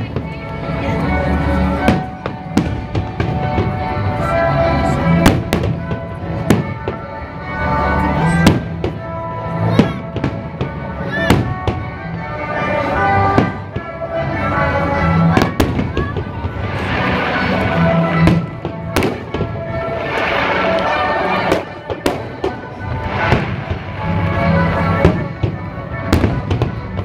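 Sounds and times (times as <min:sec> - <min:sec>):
loud music playing: 0:00.0 - 0:27.0.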